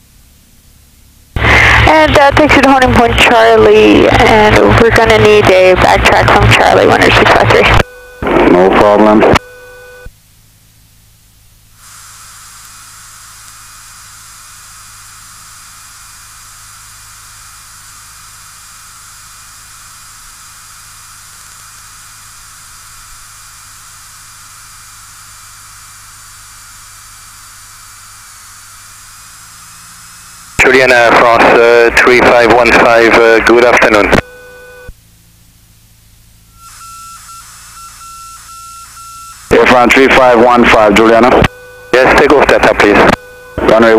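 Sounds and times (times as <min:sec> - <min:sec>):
faint low hum: 0:00.0 - 0:43.9
radio hiss and static: 0:01.3 - 0:10.8, 0:11.7 - 0:43.9.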